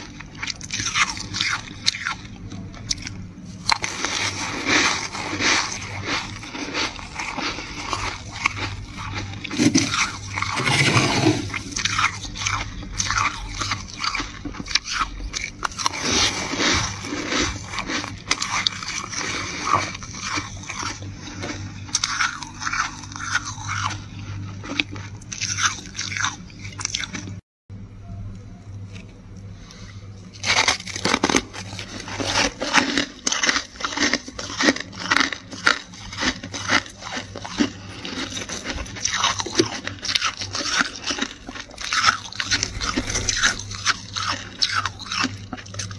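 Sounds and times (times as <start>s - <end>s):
crunching freezer frost: 0.0s - 27.4s, 28.0s - 45.9s.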